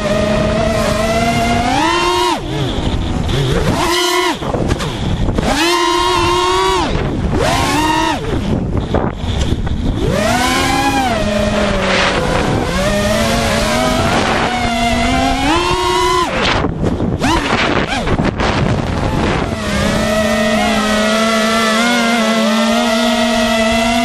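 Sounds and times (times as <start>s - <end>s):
quadcopter motors whining: 0.0s - 24.0s
wind rushing over microphone: 0.0s - 24.0s.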